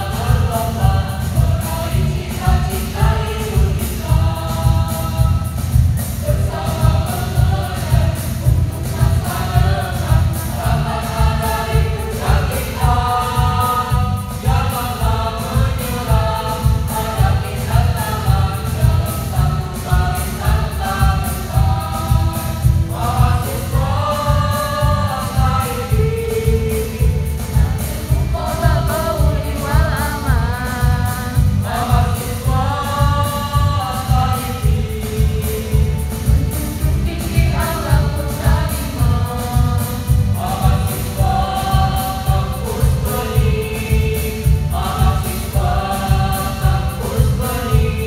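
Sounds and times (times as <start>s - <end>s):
mixed choir singing a march: 0.0s - 48.0s
steady low beat: 0.0s - 48.0s.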